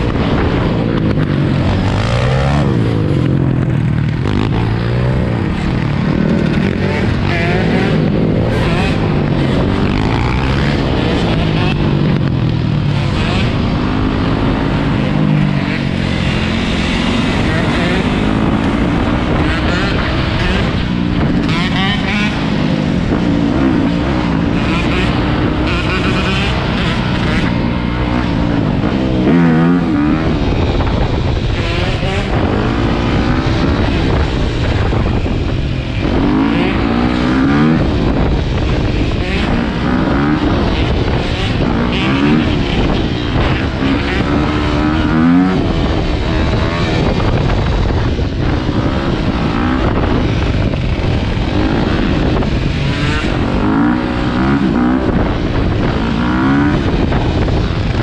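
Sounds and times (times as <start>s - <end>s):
dirt bike engine revving: 0.0s - 58.0s
wind on microphone: 0.0s - 58.0s.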